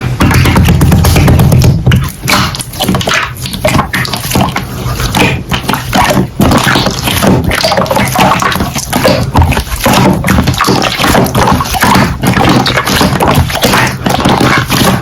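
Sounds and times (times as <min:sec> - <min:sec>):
slime squelching by hand: 0:00.0 - 0:15.0.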